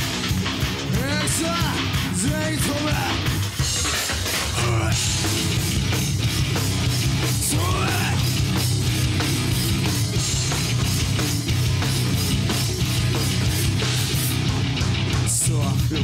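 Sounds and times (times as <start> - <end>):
bass guitar: 0.0 - 16.0
distorted electric guitars: 0.0 - 16.0
driving drum beat: 0.0 - 16.0.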